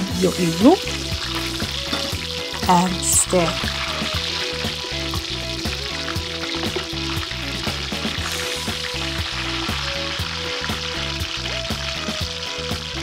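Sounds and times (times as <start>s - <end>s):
background music: 0.0s - 13.0s
beans frying in hot oil: 0.0s - 13.0s.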